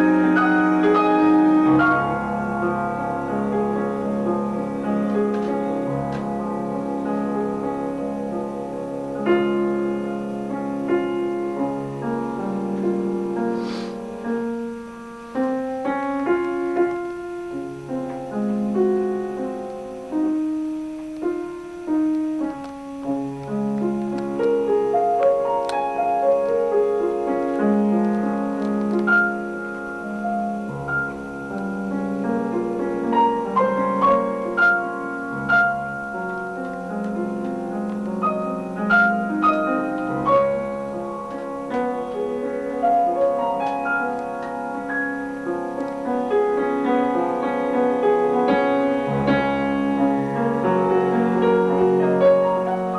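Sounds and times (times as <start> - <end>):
piano melody over chords: 0.0 - 52.9.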